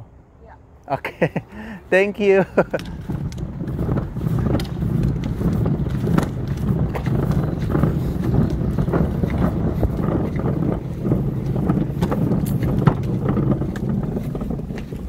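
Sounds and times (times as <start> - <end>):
wheelie bin rolling over asphalt: 1.2 - 15.0.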